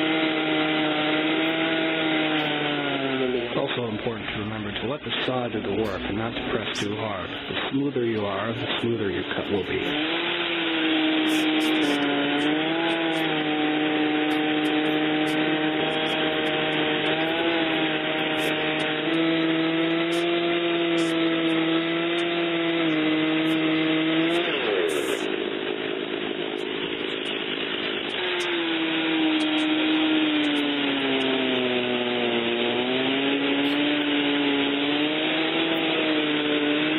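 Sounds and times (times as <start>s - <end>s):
chainsaw cutting log: 0.0s - 36.9s.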